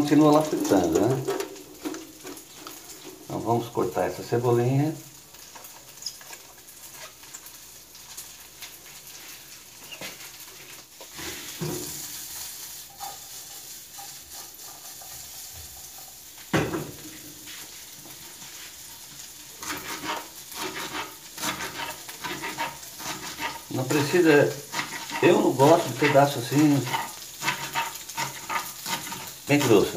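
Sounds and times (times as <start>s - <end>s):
bacon sizzling in a frying pan: 0.0s - 29.9s.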